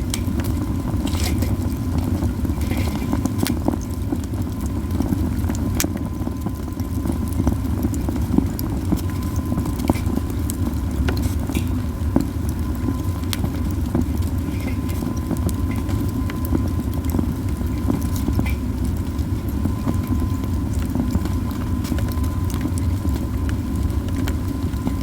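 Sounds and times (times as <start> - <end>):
fire crackling and popping: 0.0 - 25.0
roar of flames: 0.0 - 25.0.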